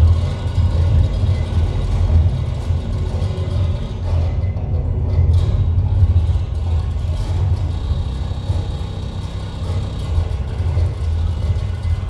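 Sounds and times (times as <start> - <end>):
loud low rumbling drone: 0.0 - 12.0.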